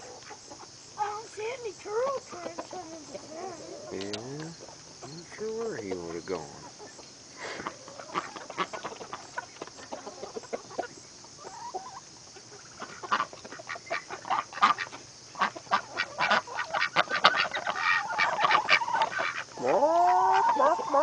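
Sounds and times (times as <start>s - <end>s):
chickens clucking: 0.0s - 21.0s
ducks quacking: 0.0s - 21.0s.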